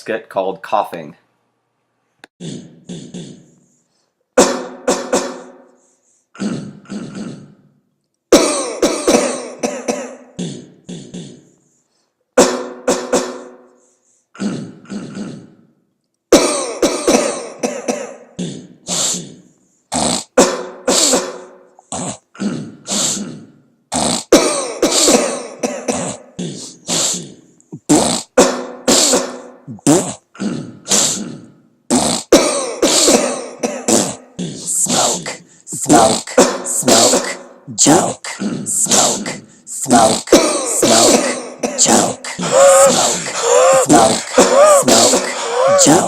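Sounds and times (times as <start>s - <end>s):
person coughing and hacking: 2.3s - 3.6s, 4.4s - 5.7s, 6.3s - 7.7s, 8.3s - 11.6s, 12.4s - 15.7s, 16.3s - 46.0s.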